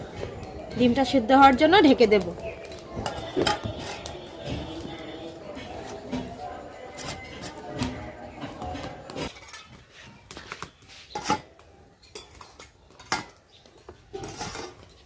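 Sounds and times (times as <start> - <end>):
metal utensils and pots clinking: 0.0 - 15.0.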